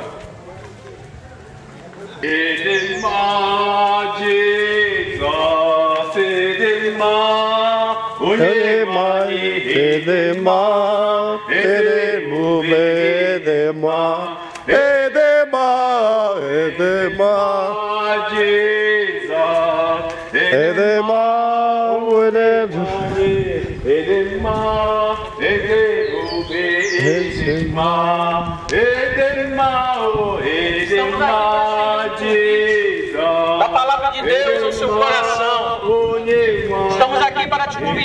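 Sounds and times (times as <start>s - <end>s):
men singing: 2.2s - 38.0s.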